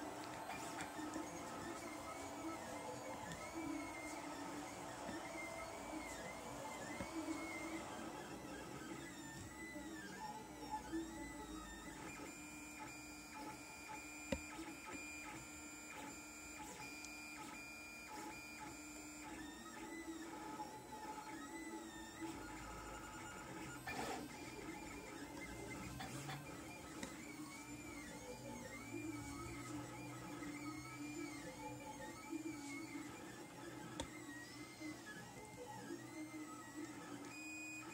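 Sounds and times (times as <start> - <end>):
printer stepper motors whining: 0.0 - 37.9.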